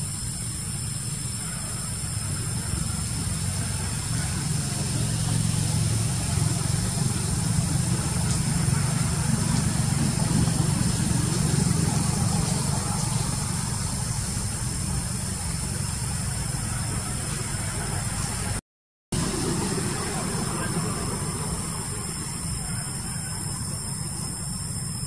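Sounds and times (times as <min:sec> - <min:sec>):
low engine-like rumble: 0:00.0 - 0:18.6, 0:19.2 - 0:25.0.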